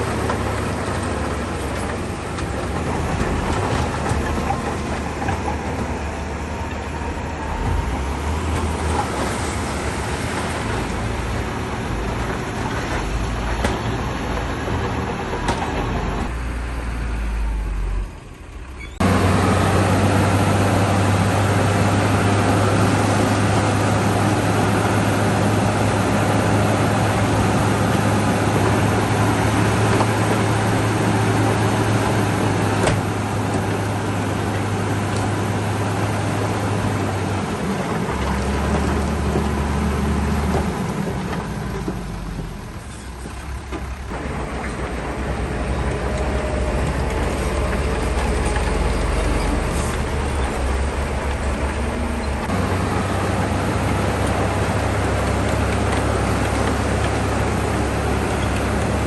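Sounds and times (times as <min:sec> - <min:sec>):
bulldozer diesel engine droning: 0:00.0 - 0:59.0.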